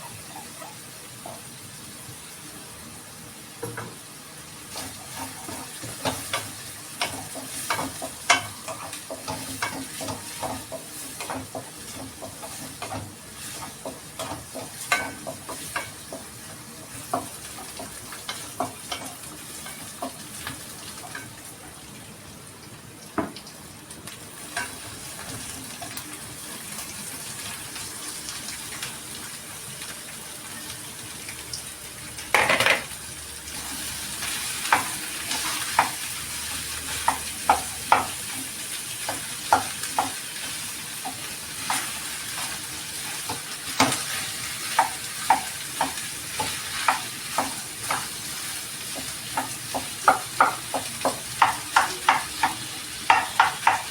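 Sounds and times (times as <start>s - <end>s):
food sizzling in a pan: 0.0s - 53.9s.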